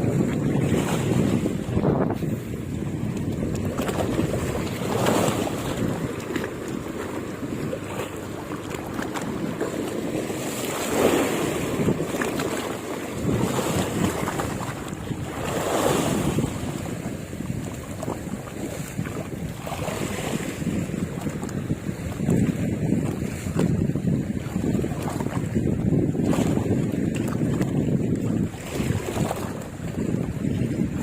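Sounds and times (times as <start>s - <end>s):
sea washing: 0.0s - 31.0s
wind buffeting microphone: 0.0s - 31.0s.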